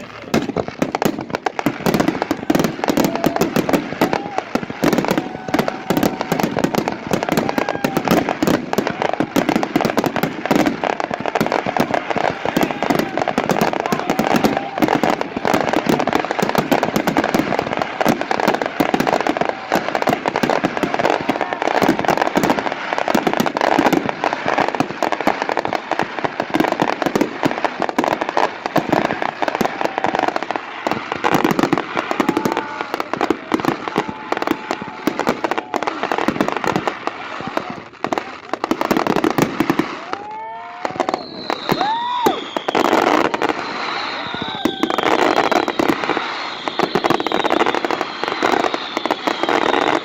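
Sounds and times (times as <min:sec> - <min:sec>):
fireworks crackling and popping: 0:00.0 - 0:50.0.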